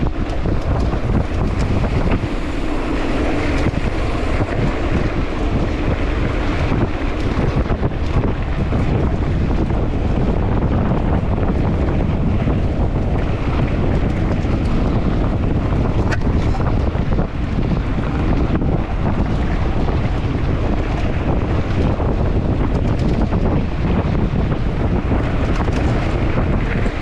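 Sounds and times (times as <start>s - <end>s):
bike clicks and rattles: 0.0s - 27.0s
wind buffeting microphone: 0.0s - 27.0s.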